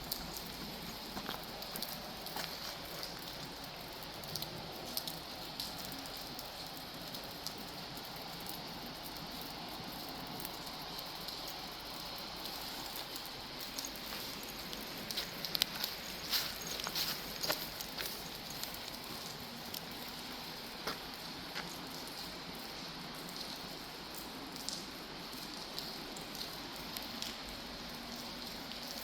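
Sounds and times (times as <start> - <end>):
raindrop ticks: 0.0 - 29.0
steady rain hiss: 0.0 - 29.0.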